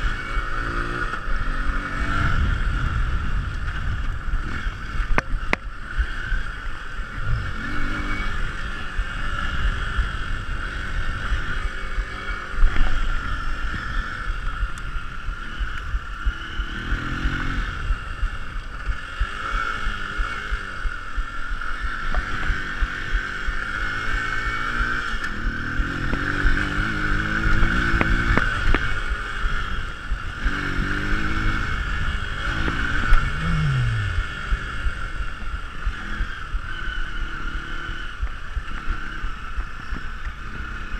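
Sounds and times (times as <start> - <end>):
motorcycle engine revving: 0.0 - 40.9
wind rumble on microphone: 0.0 - 40.9.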